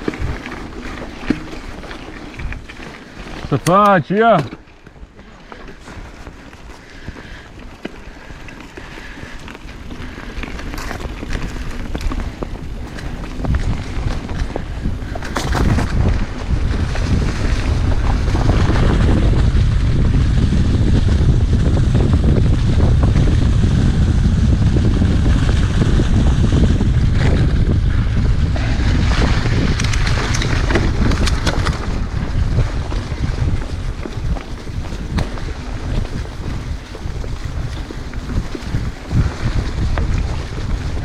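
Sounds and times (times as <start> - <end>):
bike clicks and rattles: 0.0 - 41.0
wind buffeting microphone: 0.0 - 41.0.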